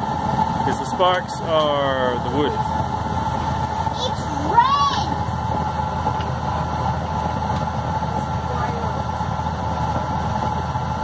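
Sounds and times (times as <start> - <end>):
faint steady whine: 0.0 - 11.0
low hum: 0.0 - 11.0
oil burner flame rushing: 0.0 - 11.0.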